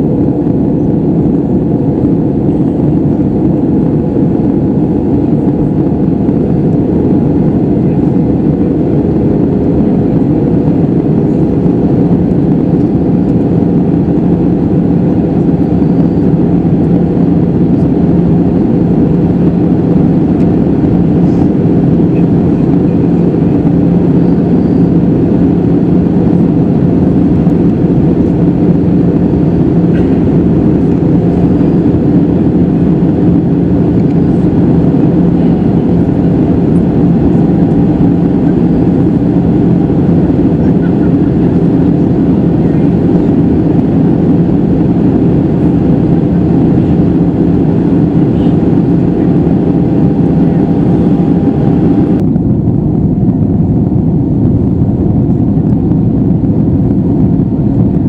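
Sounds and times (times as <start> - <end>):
airplane cabin drone: 0.0 - 58.0
low hum: 0.0 - 58.0.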